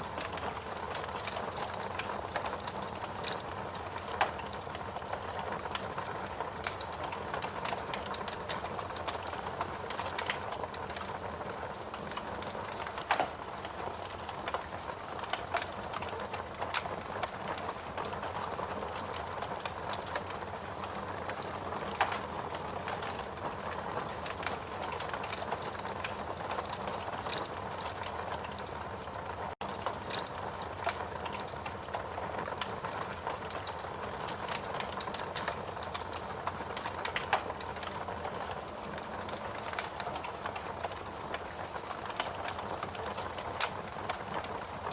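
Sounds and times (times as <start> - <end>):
log fire crackling: 0.0 - 44.9.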